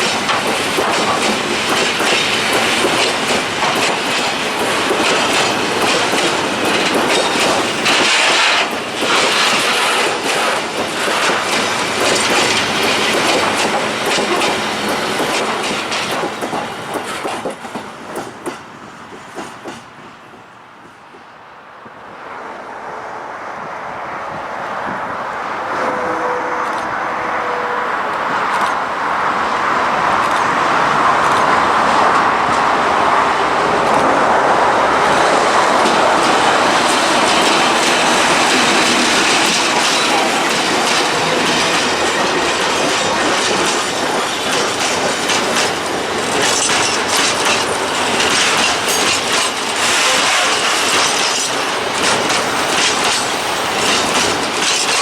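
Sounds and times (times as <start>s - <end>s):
wheels clicking over rail joints: 0.0s - 21.3s, 24.8s - 55.0s
diesel locomotive passing: 0.0s - 55.0s.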